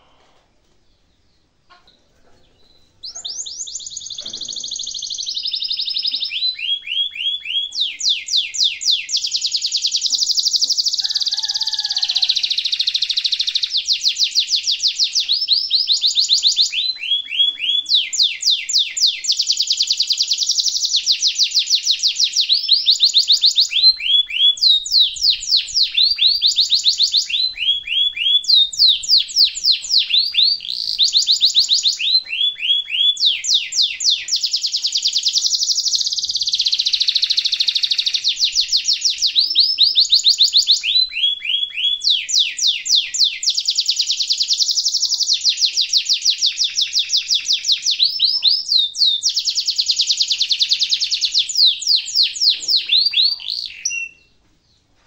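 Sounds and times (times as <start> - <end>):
canary singing trills: 0.9 - 54.9.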